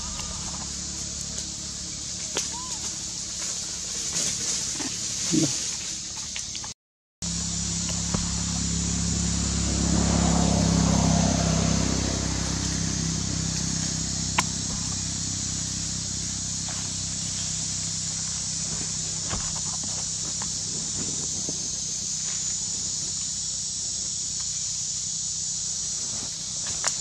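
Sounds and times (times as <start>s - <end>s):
low motor hum with hiss: 0.0s - 27.0s.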